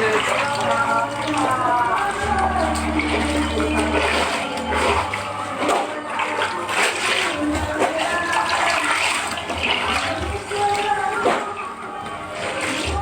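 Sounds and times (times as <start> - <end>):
water sloshing in a tub: 0.0 - 13.0.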